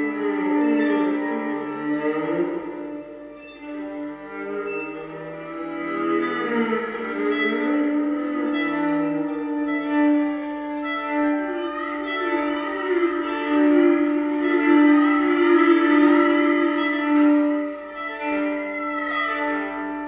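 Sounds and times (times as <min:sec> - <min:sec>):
solo violin sustained notes: 0:00.0 - 0:20.0.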